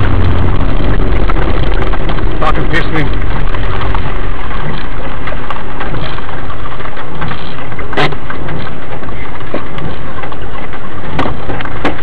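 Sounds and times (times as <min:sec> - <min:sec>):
car engine idling: 0:00.0 - 0:12.0
dense crackling noise: 0:00.0 - 0:12.0.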